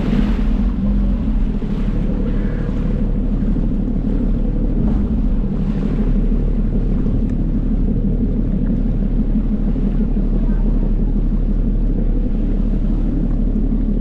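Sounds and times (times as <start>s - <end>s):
jet ski engine running: 0.0s - 14.0s
water rushing: 0.0s - 14.0s
wind buffeting microphone: 0.0s - 14.0s.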